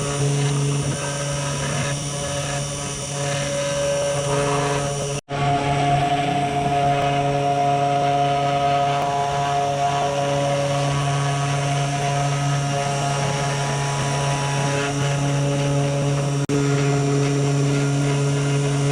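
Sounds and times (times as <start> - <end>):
router spindle motor whining: 0.0 - 18.9.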